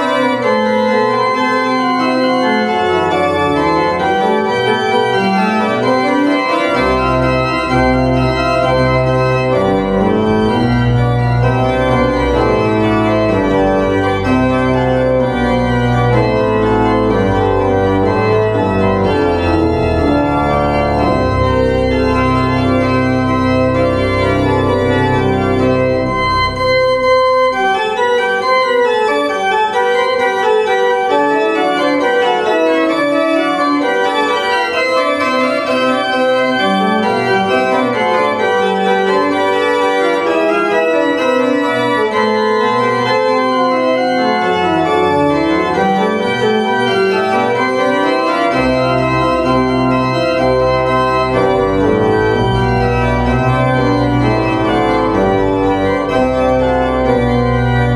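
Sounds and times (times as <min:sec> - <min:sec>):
organ music: 0:00.0 - 0:57.9.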